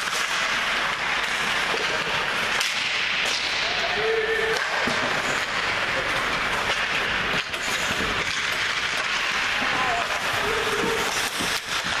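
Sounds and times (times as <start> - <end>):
hockey sticks and puck clicking: 0.0 - 12.0
skates scraping on ice: 0.0 - 12.0.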